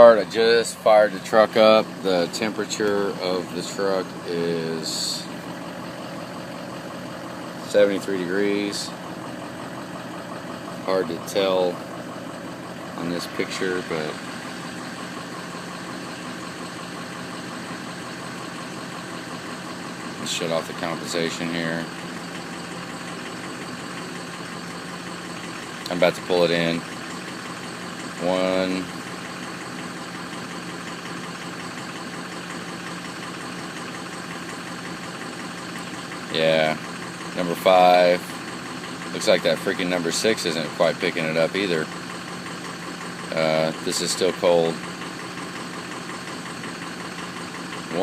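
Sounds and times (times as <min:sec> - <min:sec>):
diesel engine idling: 0:00.0 - 0:48.0
light regular engine tick: 0:00.2 - 0:04.4, 0:05.2 - 0:48.0.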